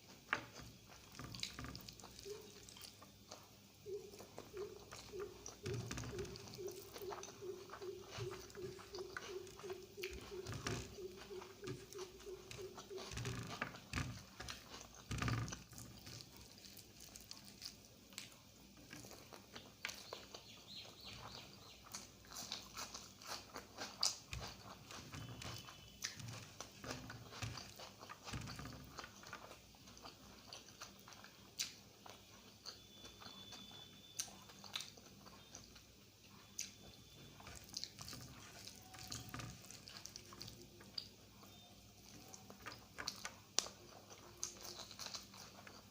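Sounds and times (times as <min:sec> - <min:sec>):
close chewing mouth smacks: 0:00.0 - 0:45.9.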